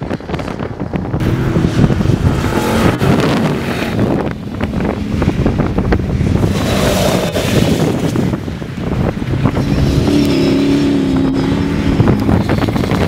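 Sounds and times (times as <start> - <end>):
off-road truck engines roaring: 0.0 - 13.0
wind buffeting microphone: 0.0 - 13.0.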